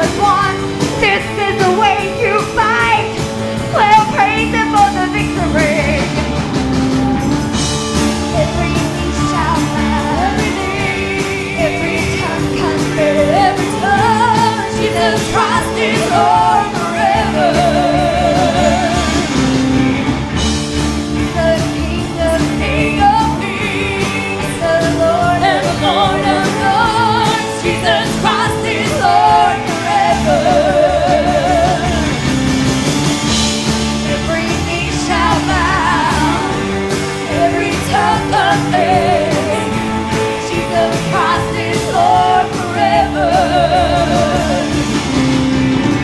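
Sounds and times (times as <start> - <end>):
person singing with vibrato: 0.0 - 45.4
gospel band playing: 0.0 - 46.0.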